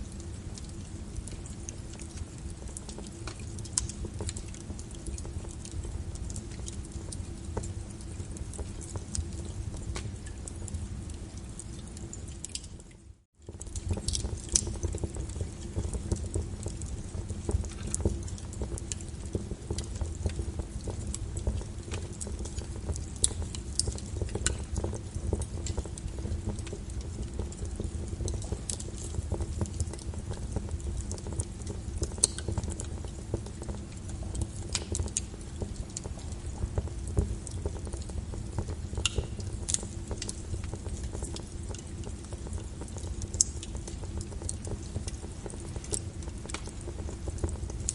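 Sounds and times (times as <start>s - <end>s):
low rumble of flames: 0.0s - 47.9s
wood fire crackling and popping: 0.0s - 47.9s.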